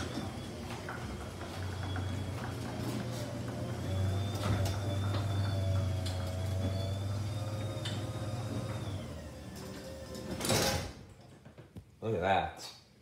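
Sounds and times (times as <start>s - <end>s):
garage door opener humming: 0.0s - 11.3s
door rollers clicking: 0.0s - 11.4s.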